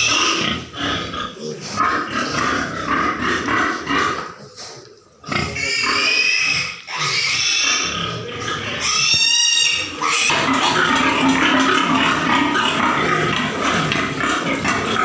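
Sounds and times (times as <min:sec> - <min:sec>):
pigs squealing: 0:00.0 - 0:04.5, 0:05.2 - 0:15.0
rough noisy pig sounds: 0:00.0 - 0:15.0.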